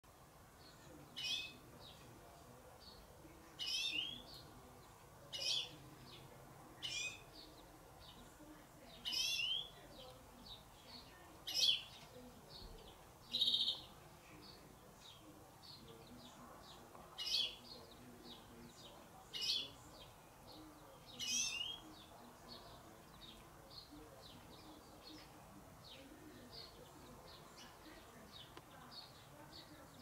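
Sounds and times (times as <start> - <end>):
songbird chirp call: 0.5 - 30.0.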